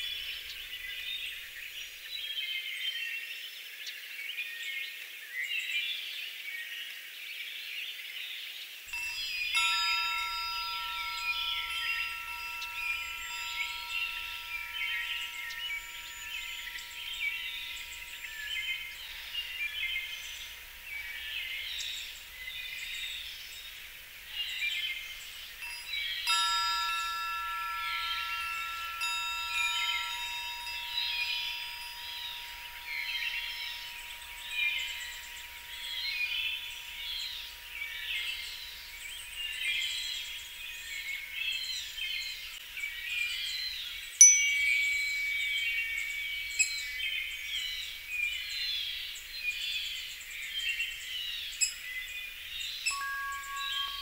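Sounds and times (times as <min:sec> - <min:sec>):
wind chimes ringing: 0:00.0 - 0:02.2, 0:08.9 - 0:54.0
birds chirping: 0:00.0 - 0:02.7, 0:08.9 - 0:54.0.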